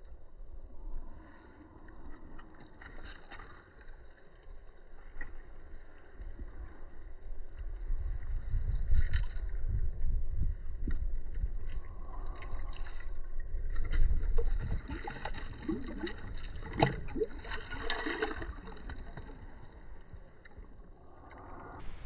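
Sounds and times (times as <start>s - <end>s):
water sloshing and splashing: 1.0s - 22.0s.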